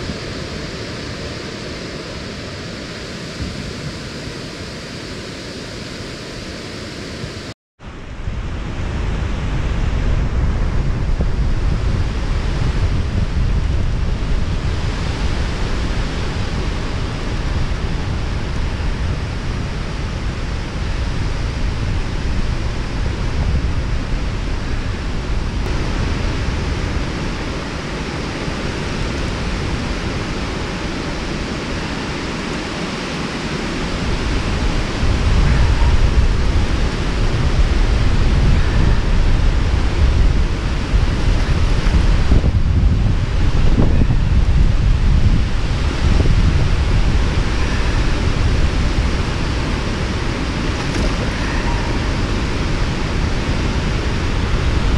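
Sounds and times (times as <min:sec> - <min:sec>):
wind buffeting microphone: 0:07.4 - 0:54.9.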